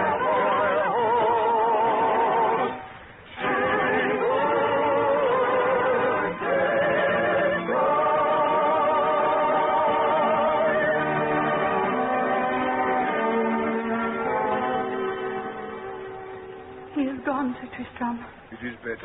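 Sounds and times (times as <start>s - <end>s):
operatic singing with vibrato: 0.0s - 15.5s.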